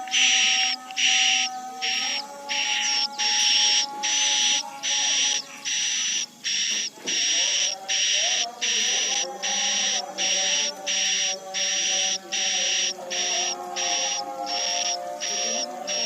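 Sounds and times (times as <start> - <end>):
buzzy swiftlet chirps: 0.0 - 16.0
faint wavering lower tones: 0.0 - 16.0.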